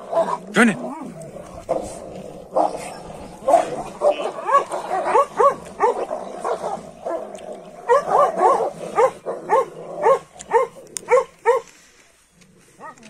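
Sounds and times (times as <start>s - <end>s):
dog barking and yelping: 0.0s - 11.7s.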